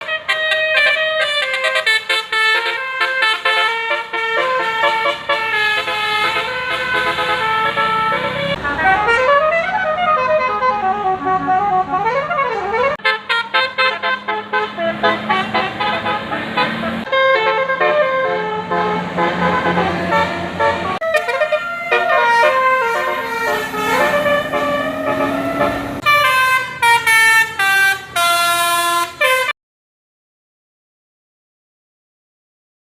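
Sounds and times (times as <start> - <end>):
musical air horn melody: 0.0 - 29.6.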